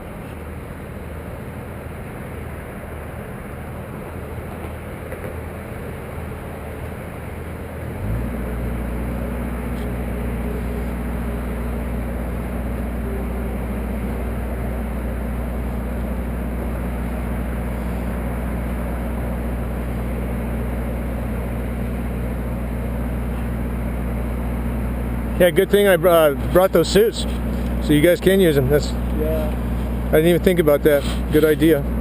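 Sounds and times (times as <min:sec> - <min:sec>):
motor engine running: 0:00.0 - 0:32.0.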